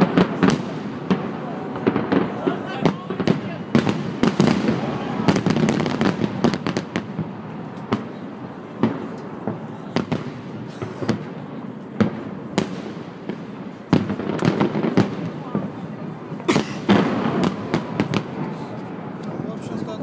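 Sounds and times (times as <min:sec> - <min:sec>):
fireworks bangs: 0:00.0 - 0:20.0
steady background noise: 0:00.0 - 0:20.0.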